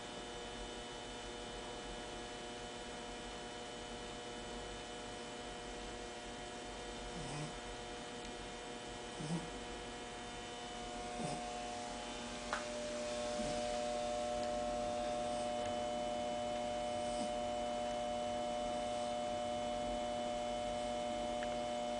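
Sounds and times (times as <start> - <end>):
electrical hum: 0.0 - 21.9.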